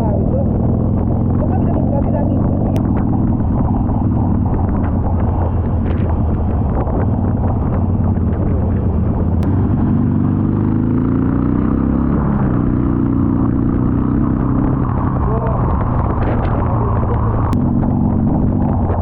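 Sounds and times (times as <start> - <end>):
motorcycle engine at road speed: 0.0 - 19.0
wind and road noise: 0.0 - 19.0.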